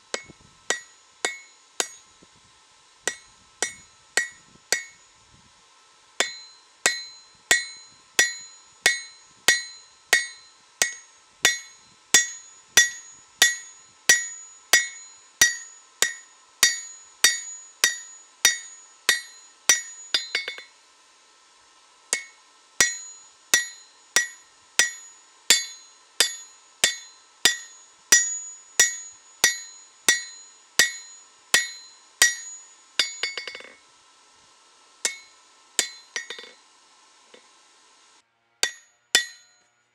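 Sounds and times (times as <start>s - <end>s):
hammer ringing on anvil: 0.1s - 2.1s, 3.1s - 5.1s, 6.2s - 20.7s, 22.1s - 33.8s, 35.0s - 36.6s, 38.6s - 39.7s.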